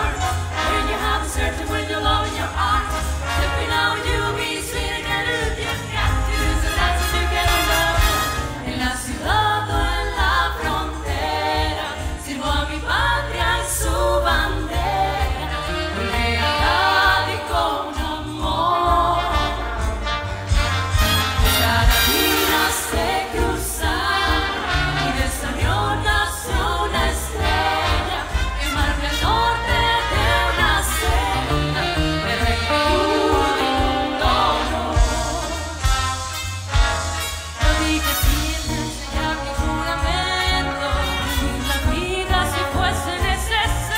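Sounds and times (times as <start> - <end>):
big band music: 0.0 - 43.9.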